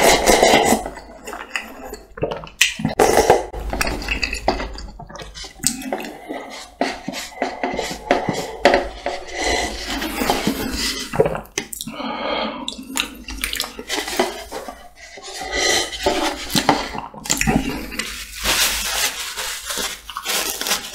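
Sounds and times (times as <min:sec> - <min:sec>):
chewing and smacking: 0:00.0 - 0:12.0, 0:12.7 - 0:15.4, 0:16.0 - 0:18.2
slurping and gulping noodles: 0:00.0 - 0:18.5.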